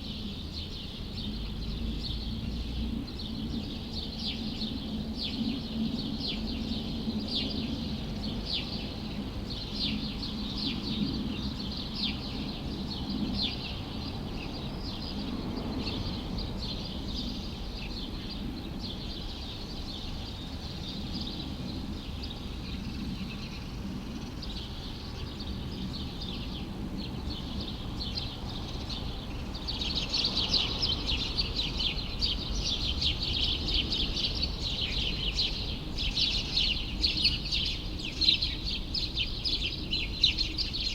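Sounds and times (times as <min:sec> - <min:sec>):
low city rumble: 0:00.0 - 0:40.9
small birds chirping: 0:00.0 - 0:40.9.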